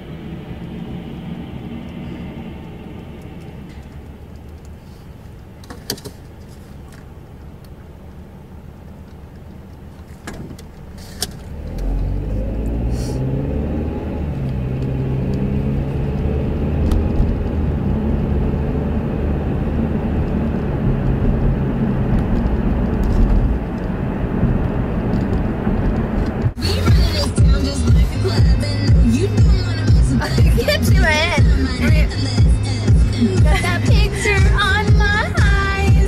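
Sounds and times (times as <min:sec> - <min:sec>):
car engine running: 0:00.0 - 0:36.0
tyre and road rumble: 0:00.0 - 0:36.0.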